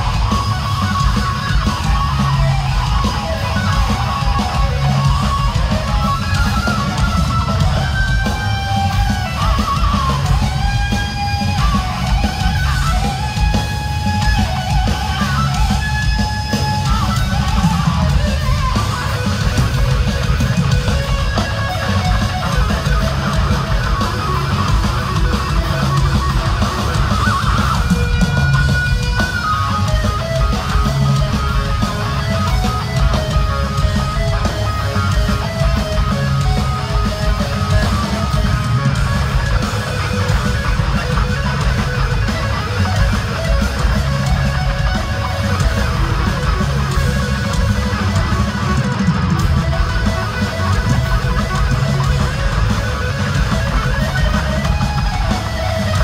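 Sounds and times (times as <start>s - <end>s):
distorted electric guitar lead: 0.0s - 56.0s
heavy metal band playing live: 0.0s - 56.0s.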